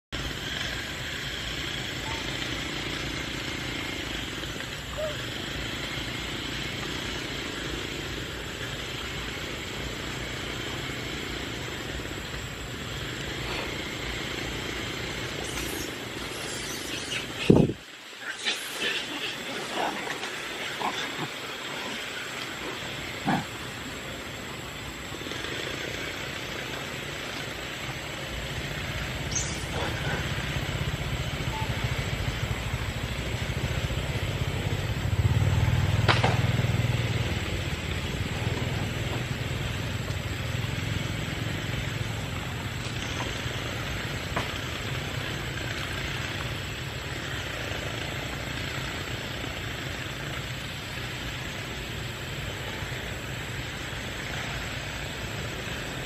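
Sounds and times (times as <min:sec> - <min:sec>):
distant motor droning: 0:00.2 - 0:18.2, 0:19.0 - 0:56.0
outdoor background hiss: 0:00.2 - 0:56.0.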